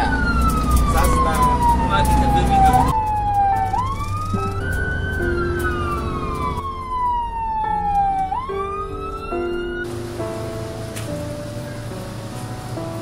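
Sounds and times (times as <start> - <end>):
ambulance siren wailing: 0.0 - 10.5.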